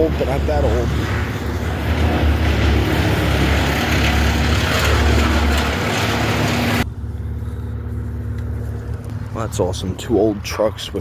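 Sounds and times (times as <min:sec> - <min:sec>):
wood chipper machine noise: 0:00.0 - 0:09.8
low engine hum: 0:00.0 - 0:11.0.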